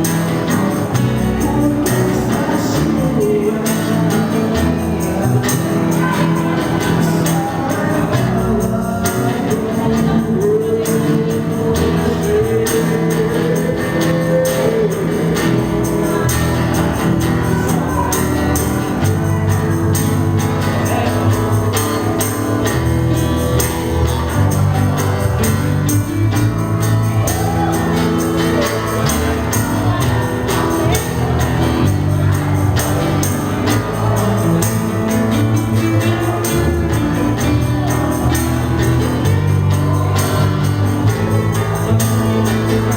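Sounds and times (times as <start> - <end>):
acoustic guitars: 0.0 - 42.9
cajon beat: 0.0 - 42.9
person singing: 0.0 - 42.9.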